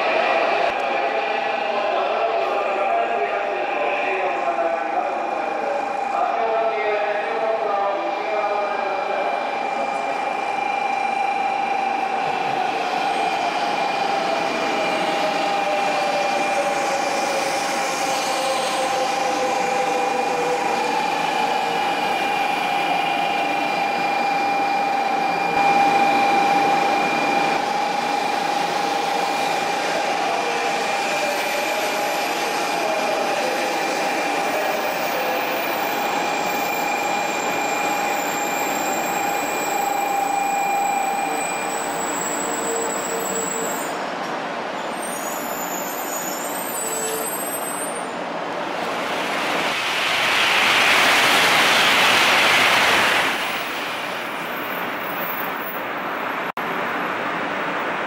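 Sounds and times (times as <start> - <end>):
train rolling and air rush: 0.0 - 41.2, 43.5 - 58.0.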